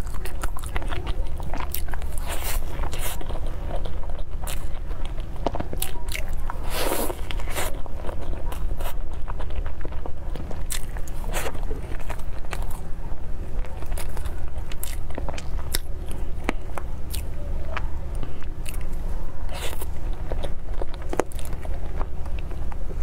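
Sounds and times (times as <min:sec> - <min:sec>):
chewing with wet mouth clicks: 0:00.0 - 0:23.0.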